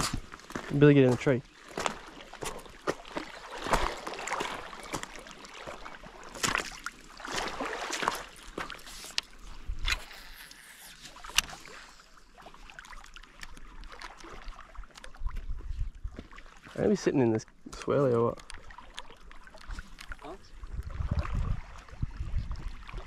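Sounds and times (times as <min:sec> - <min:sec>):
seawater sloshing and splashing: 0:00.0 - 0:23.0.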